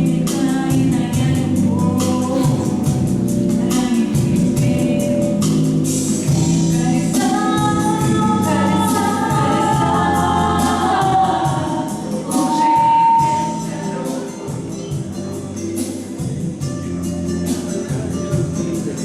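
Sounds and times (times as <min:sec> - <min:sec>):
percussive beat: 0:00.0 - 0:19.0
voices singing together: 0:00.0 - 0:19.0.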